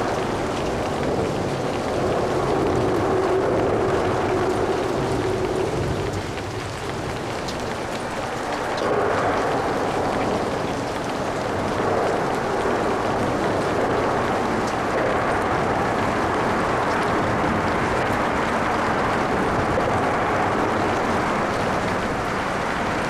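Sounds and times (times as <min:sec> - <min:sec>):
rain drops ticking: 0:00.0 - 0:23.0
steady rain: 0:00.0 - 0:23.0
traffic hissing on wet pavement: 0:00.0 - 0:23.0.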